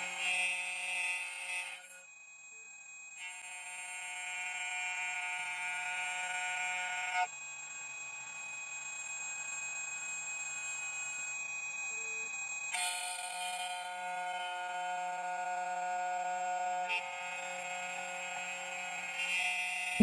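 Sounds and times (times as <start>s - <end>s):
key cutting machine whine: 0.0s - 20.0s.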